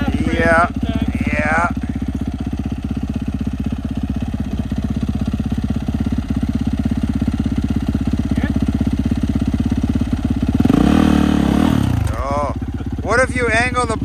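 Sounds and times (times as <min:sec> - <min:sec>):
dirt bike engine idling: 0:00.0 - 0:14.0.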